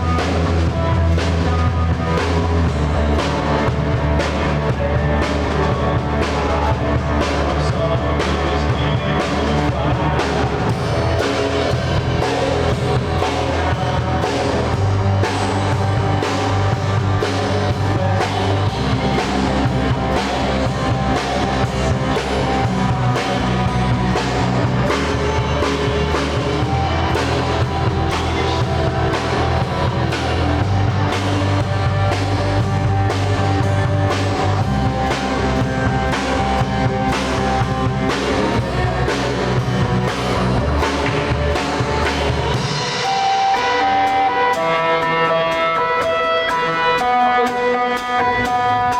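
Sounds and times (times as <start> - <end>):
drum kit beat: 0.0 - 48.9
rock band playing: 0.0 - 48.9.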